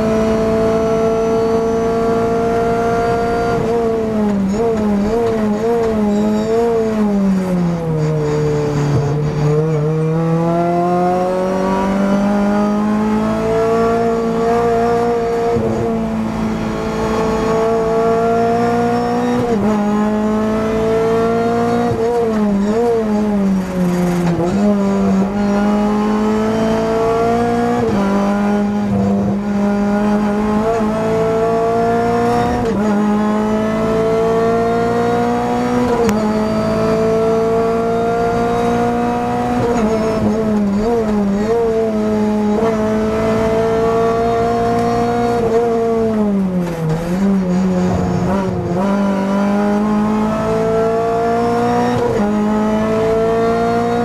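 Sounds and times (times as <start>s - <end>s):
race car engine from inside cabin: 0.0s - 54.0s.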